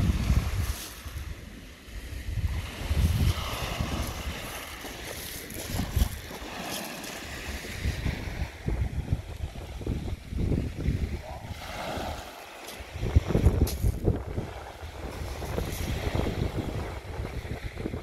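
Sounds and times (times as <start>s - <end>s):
waves washing onto shingle: 0.0s - 18.0s
wind buffeting microphone: 0.0s - 18.0s.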